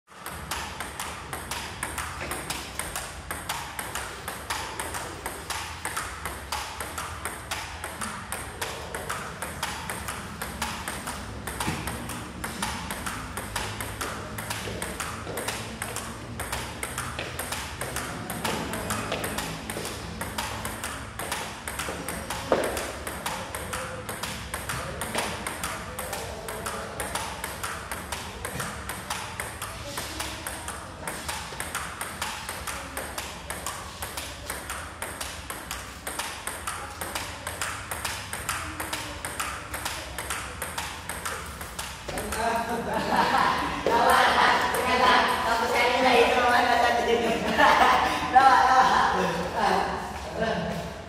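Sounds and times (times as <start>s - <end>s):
table tennis ball clicking: 0.2s - 48.0s.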